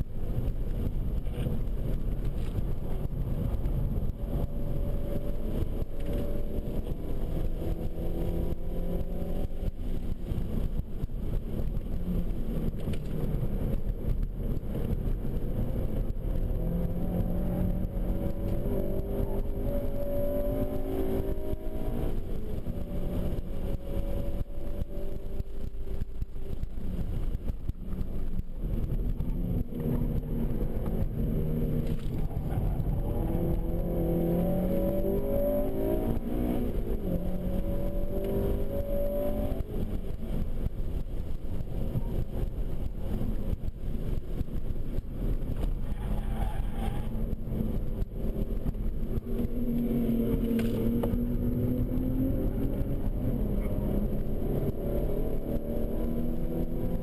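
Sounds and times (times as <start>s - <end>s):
car engine accelerating: 0.0s - 57.0s
road and tyre rumble: 0.0s - 57.0s.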